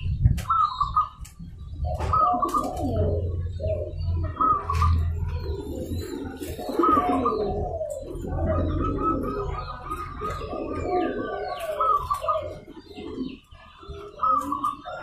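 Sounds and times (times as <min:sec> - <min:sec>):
doves cooing: 0:00.3 - 0:15.0.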